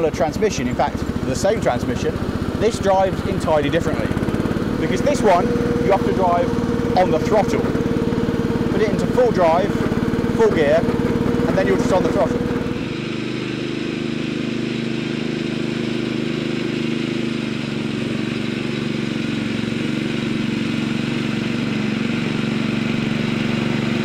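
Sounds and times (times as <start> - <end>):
petrol engine running steadily: 0.0 - 24.0.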